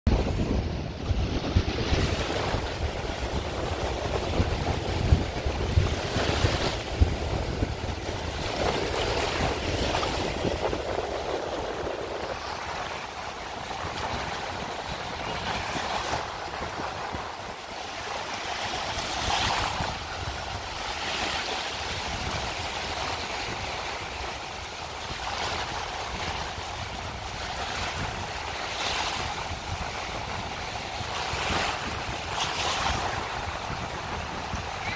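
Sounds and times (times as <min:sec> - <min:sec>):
waves breaking on a sandy beach: 0:00.1 - 0:34.9
wind buffeting microphone: 0:00.1 - 0:34.9.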